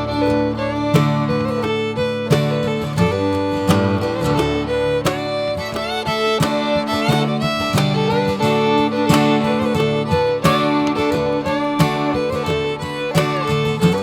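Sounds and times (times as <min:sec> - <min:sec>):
instrumental music with fiddle: 0:00.0 - 0:14.0.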